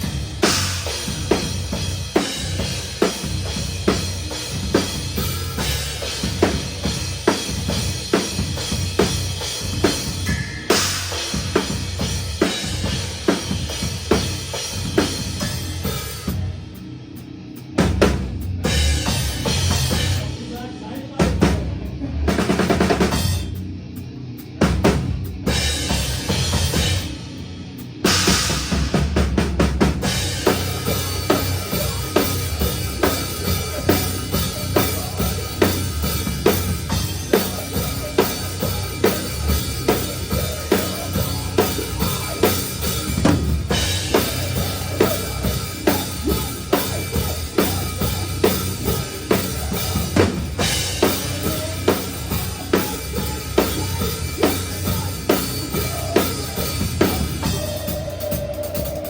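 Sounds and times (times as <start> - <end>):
bass drum: 0.0 - 16.6, 17.8 - 20.4, 28.1 - 58.1
metalcore band playing live: 0.0 - 59.0.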